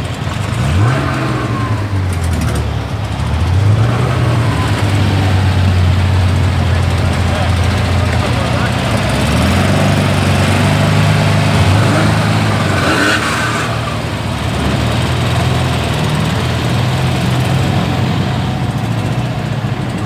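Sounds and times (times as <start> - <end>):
race car engine idling: 0.0 - 20.0.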